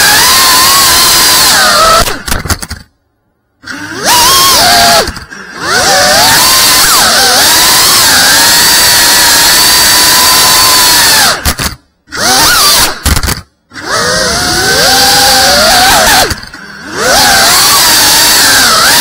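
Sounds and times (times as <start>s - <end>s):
small drone motors whining: 0.0s - 2.4s, 3.6s - 19.0s.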